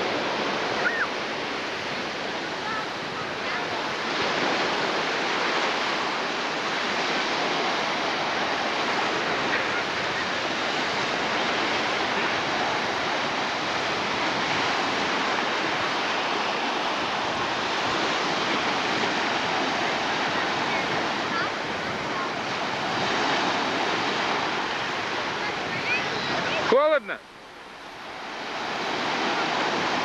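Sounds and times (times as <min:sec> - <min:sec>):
sea surf washing onto beach: 0:00.0 - 0:30.0.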